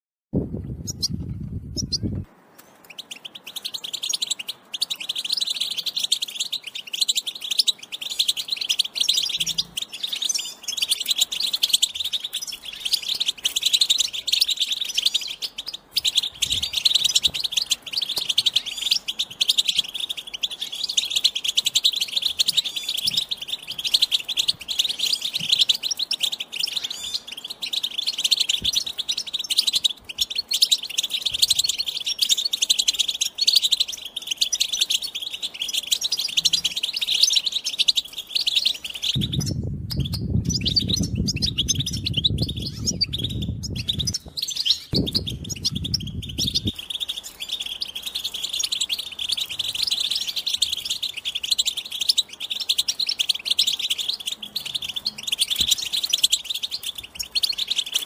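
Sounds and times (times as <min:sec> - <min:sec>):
goldfinch twittering song: 0:00.8 - 0:58.0.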